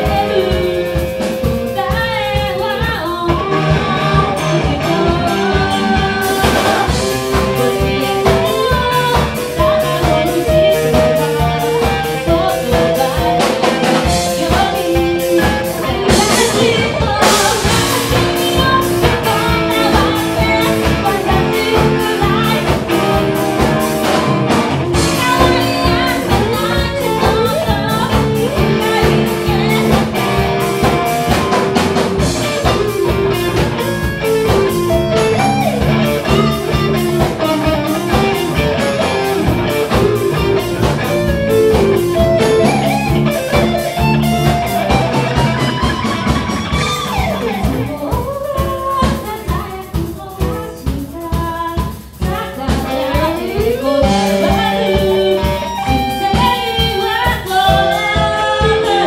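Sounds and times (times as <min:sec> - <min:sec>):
bass: 0:00.0 - 0:59.0
drum kit: 0:00.0 - 0:59.0
electric guitar: 0:00.0 - 0:59.0.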